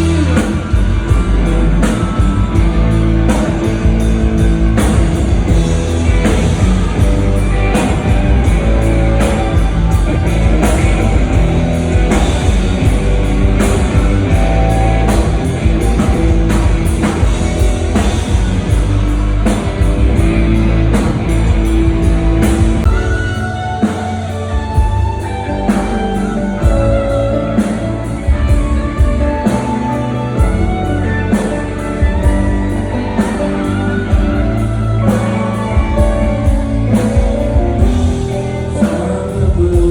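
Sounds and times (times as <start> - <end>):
rock band playing through pa: 0.0 - 39.9.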